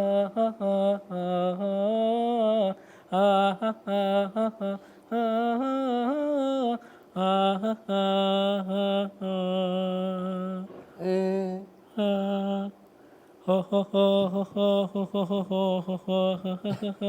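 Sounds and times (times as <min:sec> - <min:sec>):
men singing a cappella: 0:00.0 - 0:12.8, 0:13.4 - 0:17.0.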